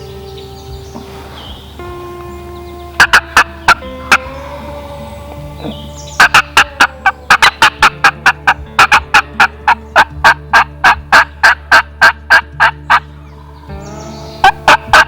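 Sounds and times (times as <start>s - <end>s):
wild turkey calling: 0.0s - 15.0s.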